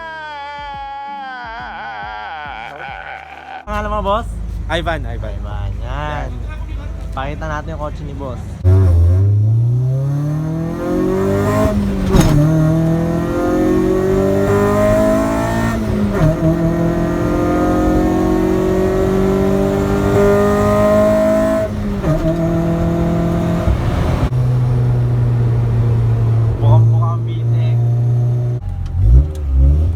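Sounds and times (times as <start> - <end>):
car engine accelerating through gears: 3.7 - 29.9.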